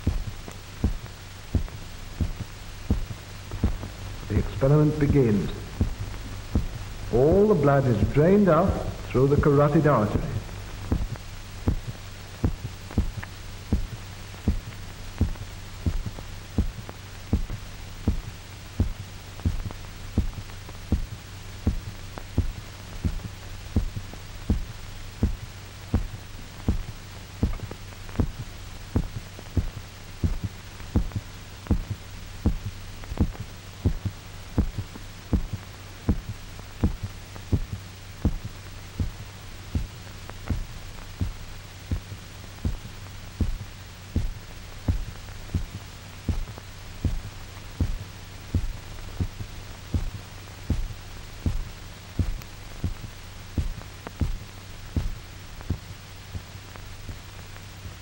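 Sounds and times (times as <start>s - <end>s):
heartbeat: 0.0s - 57.3s
constant low hum: 0.0s - 58.0s.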